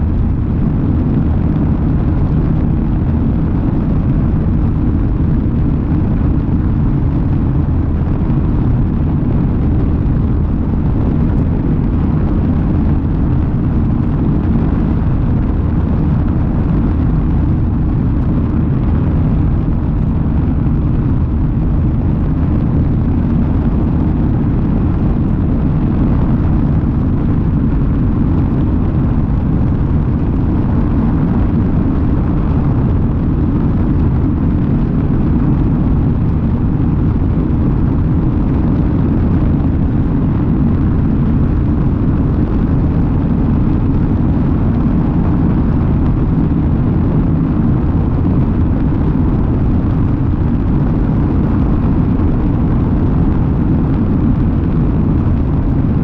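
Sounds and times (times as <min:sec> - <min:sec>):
light aircraft engine rumble: 0:00.0 - 0:56.0
wind buffeting microphone: 0:00.0 - 0:56.0.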